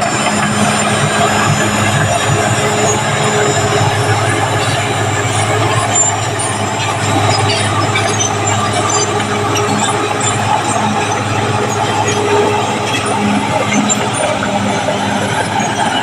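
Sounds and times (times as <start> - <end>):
bulldozer diesel engine running: 0.0 - 16.0
steel tracks squealing: 0.0 - 16.0.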